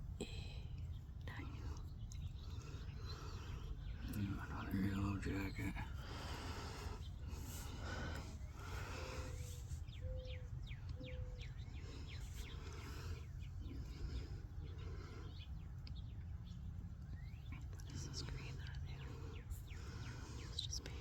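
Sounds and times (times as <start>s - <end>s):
birds calling: 0.0s - 21.0s
low rumble of wind: 0.0s - 21.0s.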